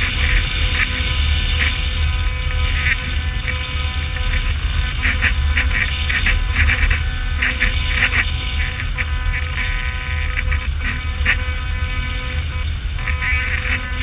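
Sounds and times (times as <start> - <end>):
raspy crackles: 0.0 - 14.0
steady whine: 0.0 - 14.0
wind noise rumble: 0.0 - 14.0.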